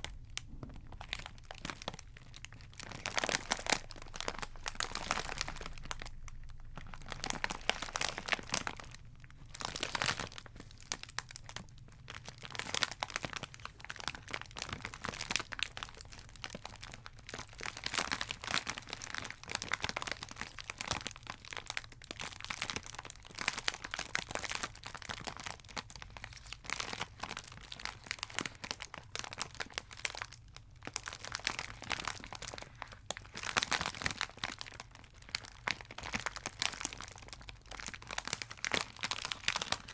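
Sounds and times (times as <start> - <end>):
wrappers crinkling: 0.0 - 39.9.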